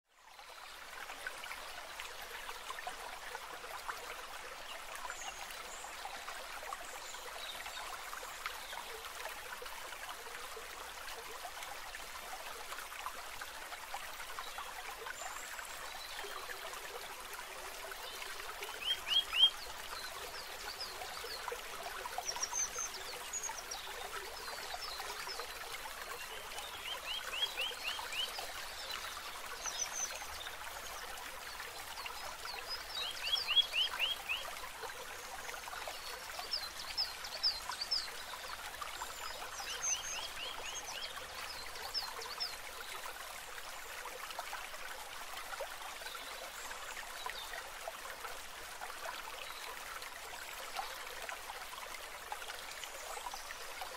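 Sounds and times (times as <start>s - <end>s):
rushing trickling water: 0.1s - 53.9s.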